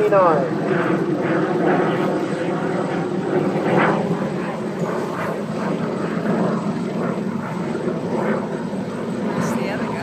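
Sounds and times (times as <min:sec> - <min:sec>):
jet engine running: 0:00.0 - 0:10.0.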